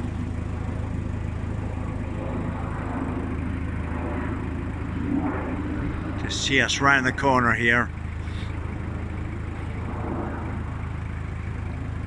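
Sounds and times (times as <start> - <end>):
boat engine throbbing: 0.0 - 12.0.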